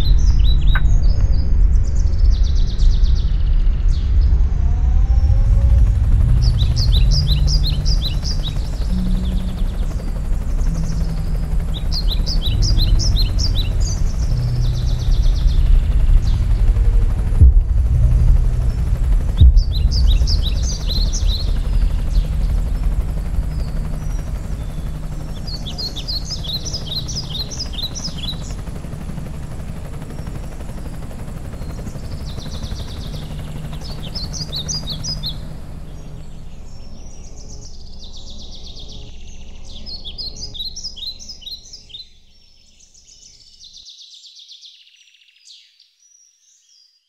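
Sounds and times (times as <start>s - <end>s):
songbird chirping: 0.0s - 1.2s, 6.2s - 29.2s, 29.8s - 47.0s
low steady rumble: 0.0s - 40.4s.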